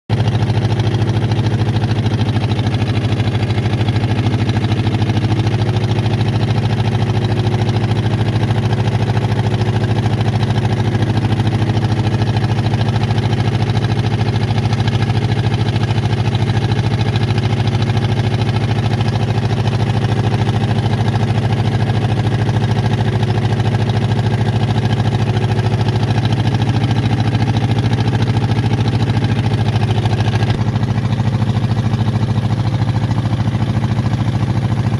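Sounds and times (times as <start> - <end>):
small boat engine running: 0.1 - 34.9.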